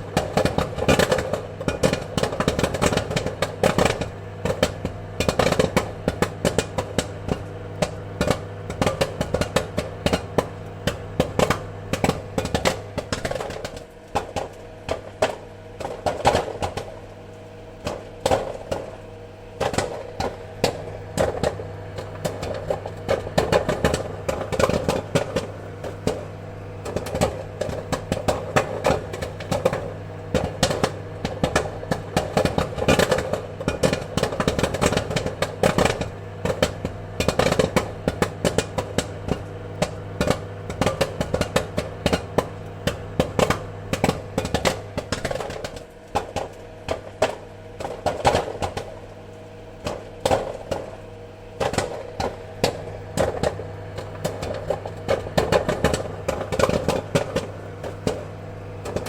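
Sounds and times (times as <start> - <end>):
popcorn kernels popping: 0.0 - 59.0
steady low hum: 0.0 - 59.0.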